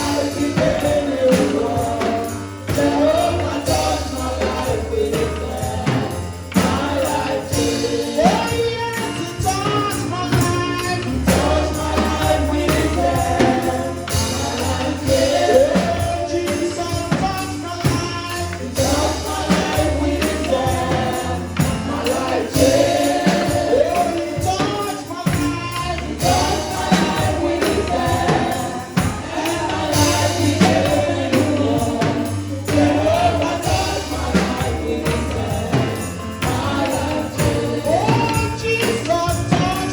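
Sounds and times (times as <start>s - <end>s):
band playing: 0.0s - 39.9s
gospel choir singing: 0.0s - 39.9s
tambourine: 0.0s - 39.9s.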